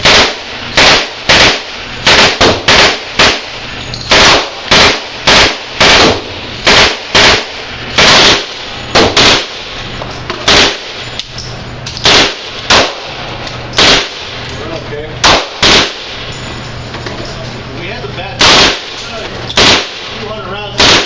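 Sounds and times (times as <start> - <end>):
gunshots: 0.0 - 11.2, 12.0 - 14.5, 15.2 - 16.4, 18.4 - 21.0.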